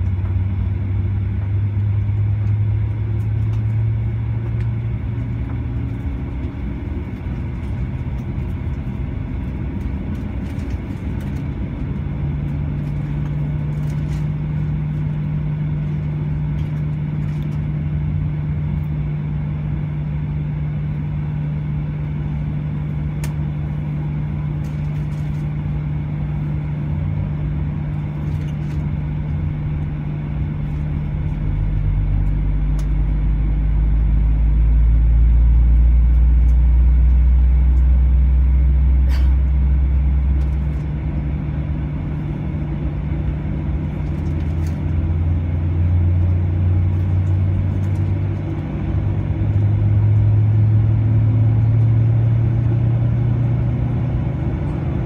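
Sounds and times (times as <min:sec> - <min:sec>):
airplane cabin hum: 0:00.0 - 0:55.0
deep rumble: 0:00.0 - 0:55.0.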